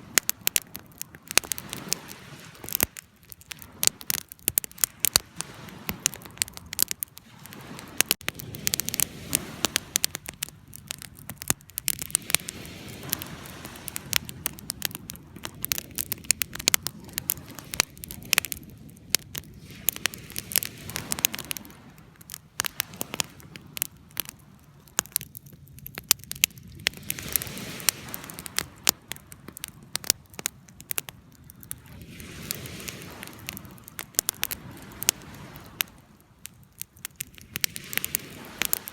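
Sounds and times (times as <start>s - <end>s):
flames rushing: 0.0s - 38.9s
wood fire crackling: 0.0s - 38.9s.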